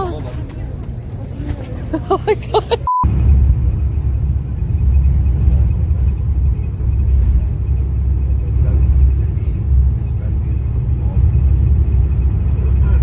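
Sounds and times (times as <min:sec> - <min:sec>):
vehicle road rumble: 0:00.0 - 0:13.0.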